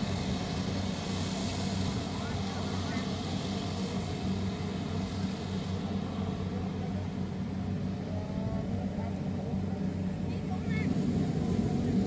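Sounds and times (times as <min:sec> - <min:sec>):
combine harvester diesel engine hum: 0:00.0 - 0:12.0.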